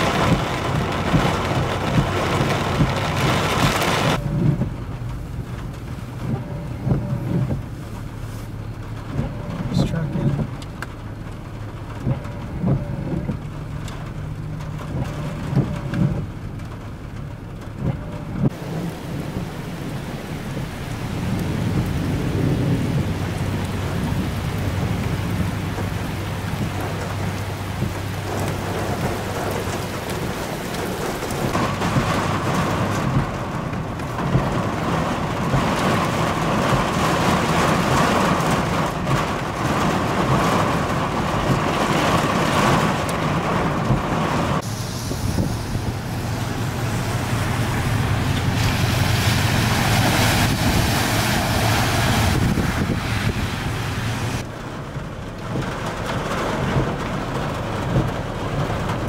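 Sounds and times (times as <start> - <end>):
thunder rumbling: 0.0 - 7.8, 17.2 - 59.0
torrential rain on pavement: 0.0 - 59.0.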